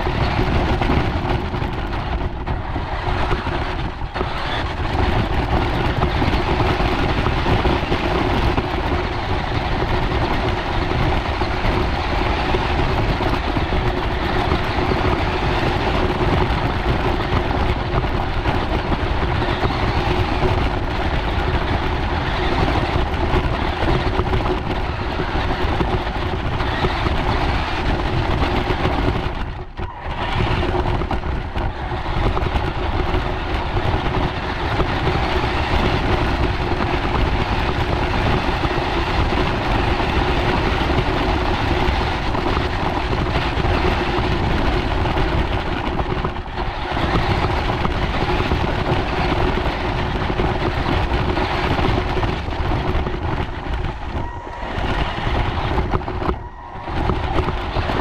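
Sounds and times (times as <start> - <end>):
toy vehicle motor and gears whining: 2.8 - 53.5.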